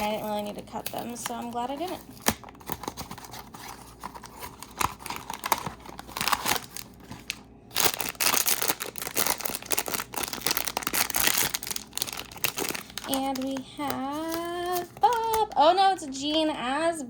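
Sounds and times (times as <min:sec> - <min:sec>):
cardboard packaging tearing: 0:00.0 - 0:15.6
plastic bag crinkling: 0:00.0 - 0:16.4.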